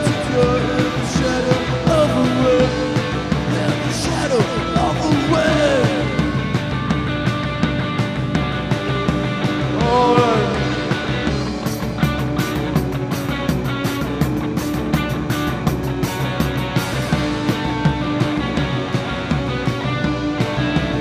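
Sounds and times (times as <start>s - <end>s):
drum beat: 0.0s - 21.0s
rock band playing live: 0.0s - 21.0s.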